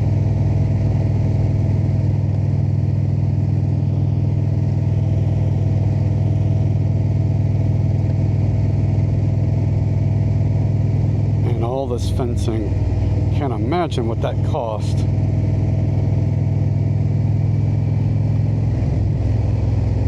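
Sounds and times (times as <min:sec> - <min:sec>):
motorcycle engine running: 0:00.0 - 0:20.0
road noise: 0:00.0 - 0:20.0.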